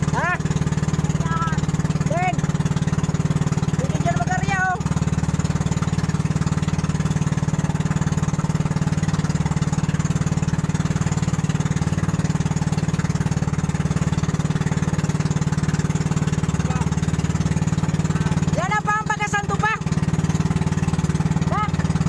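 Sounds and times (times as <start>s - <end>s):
small boat engine running: 0.0s - 22.0s.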